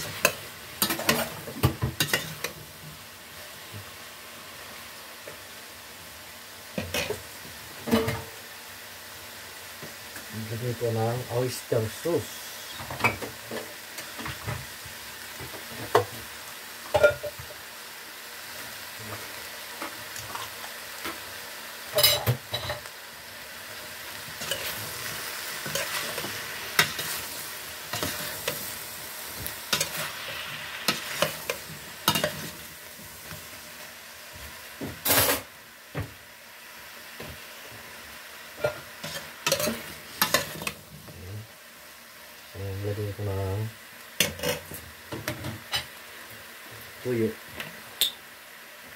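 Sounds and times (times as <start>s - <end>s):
food sizzling in a pot: 0.0s - 48.9s.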